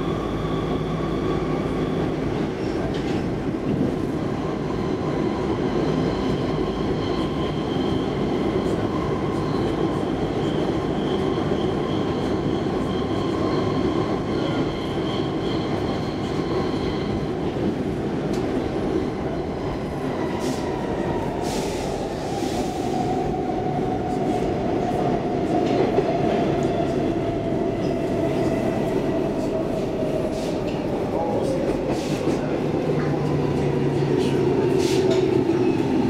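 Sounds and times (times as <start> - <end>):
train wheels rumbling on track: 0.0 - 36.0.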